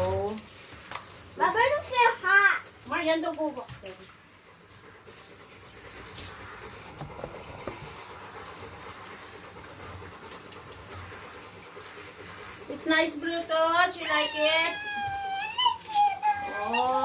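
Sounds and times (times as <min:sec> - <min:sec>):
shower water running: 0:00.0 - 0:17.0.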